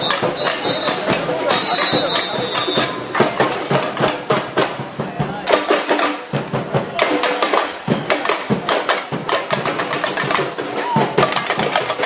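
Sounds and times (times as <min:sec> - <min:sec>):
crowd voices: 0:00.0 - 0:12.0
samba drums: 0:00.0 - 0:12.0.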